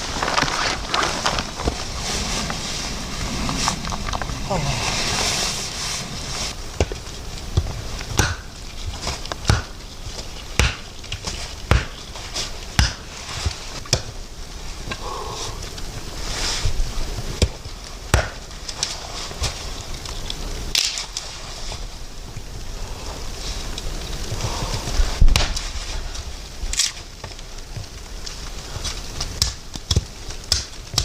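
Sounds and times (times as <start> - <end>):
faint steady background noise: 0.0 - 31.0.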